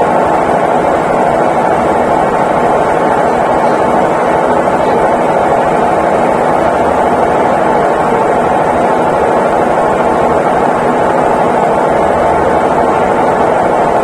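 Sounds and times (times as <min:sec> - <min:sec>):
washing machine whirring hum: 0:00.0 - 0:14.0.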